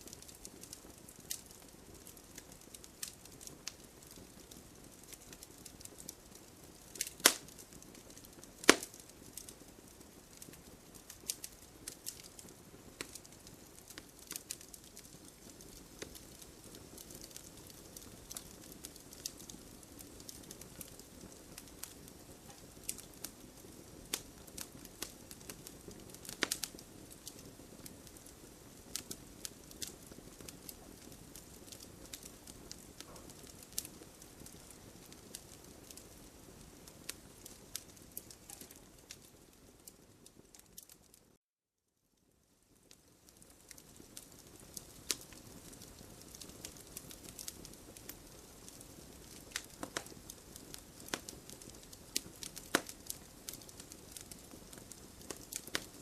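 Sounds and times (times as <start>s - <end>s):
campfire crackling: 0.0s - 41.4s, 42.5s - 56.0s.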